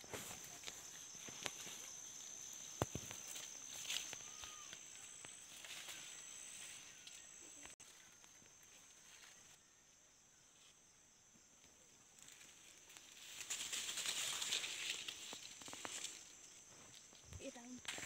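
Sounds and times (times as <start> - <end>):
leaves rustling: 0.0 - 9.6, 12.0 - 18.0
insects droning: 0.0 - 18.0.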